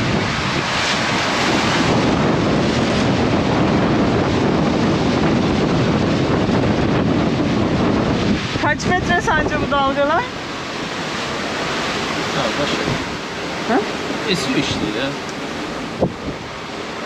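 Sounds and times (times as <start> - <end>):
waves rushing around boat: 0.0 - 17.0
wind blowing on microphone: 0.0 - 17.0.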